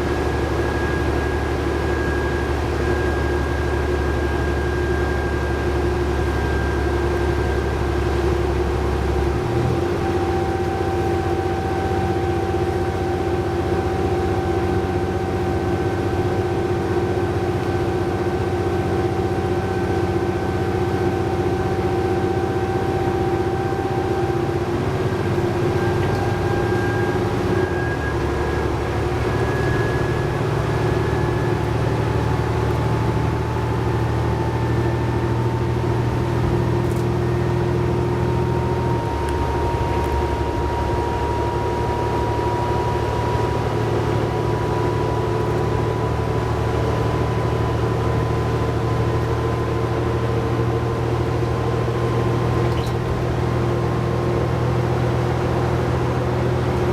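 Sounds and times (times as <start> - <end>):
bus engine drone: 0.0 - 56.9
transmission whine: 0.0 - 56.9.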